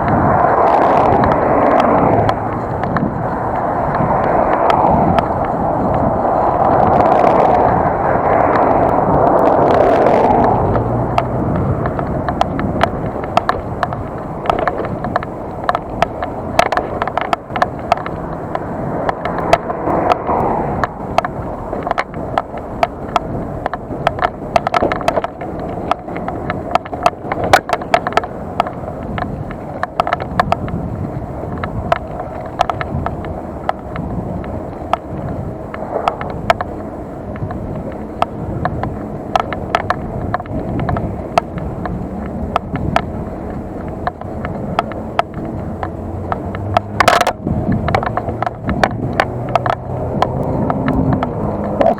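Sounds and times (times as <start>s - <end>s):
bicycle clicking and rattling: 0.0s - 51.9s
wind and tyre noise: 0.0s - 51.9s.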